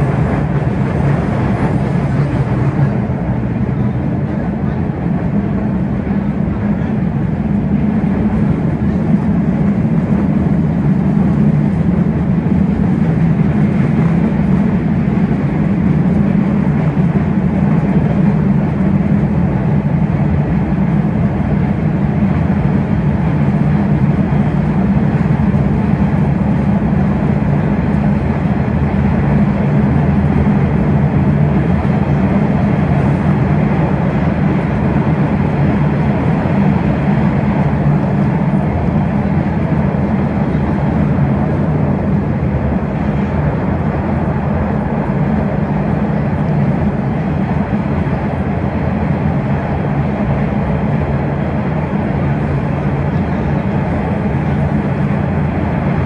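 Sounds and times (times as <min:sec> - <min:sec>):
subway car rumbling on rails: 0:00.0 - 0:56.0.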